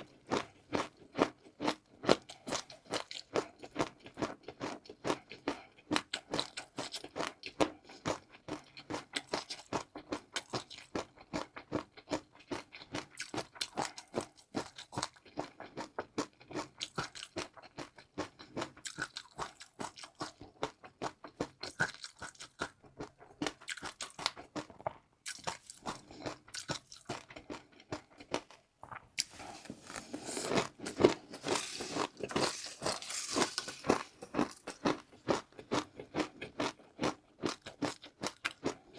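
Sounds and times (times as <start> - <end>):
chewing crisp food: 0.0 - 38.9.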